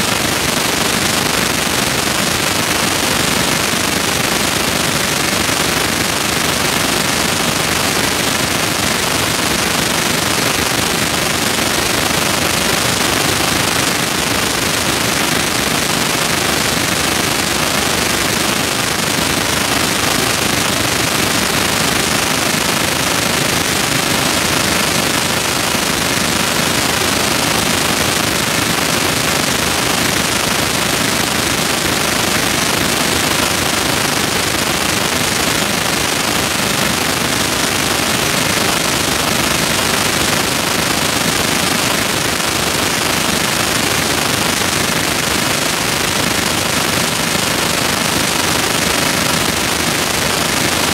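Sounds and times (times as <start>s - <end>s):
crowd noise: 0.0s - 50.9s
echoing pool arena noise: 0.0s - 50.9s.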